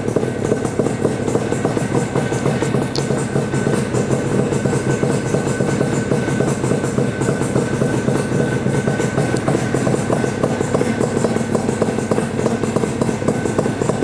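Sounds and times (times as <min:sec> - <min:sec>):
two-stroke motorcycle engine idling: 0:00.0 - 0:14.0.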